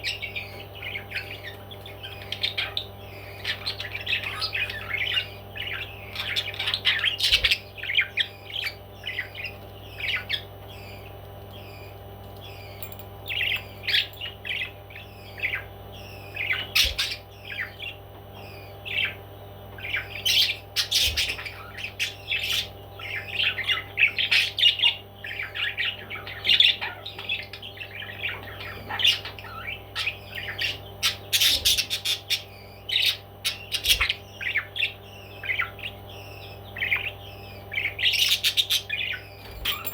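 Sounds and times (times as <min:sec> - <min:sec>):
parrot squawking and chirping: 0:00.0 - 0:11.9, 0:19.8 - 0:39.9
steady low hum: 0:00.0 - 0:39.9.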